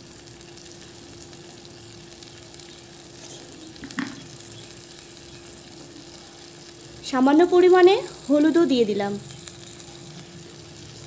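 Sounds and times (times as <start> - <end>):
dal bubbling and sizzling: 0.0 - 11.0.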